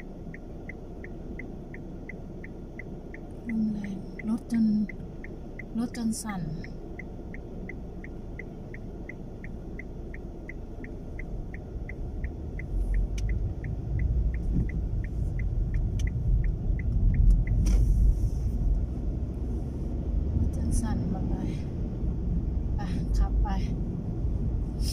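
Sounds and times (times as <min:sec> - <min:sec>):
wind buffeting a moving car: 0:00.0 - 0:24.9.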